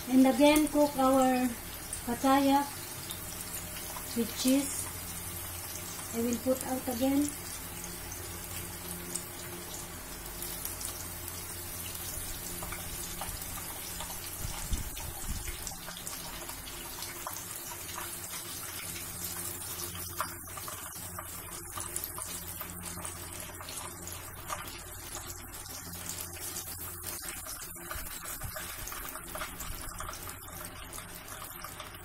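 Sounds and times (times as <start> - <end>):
pastries sizzling in hot oil: 0.0 - 32.0.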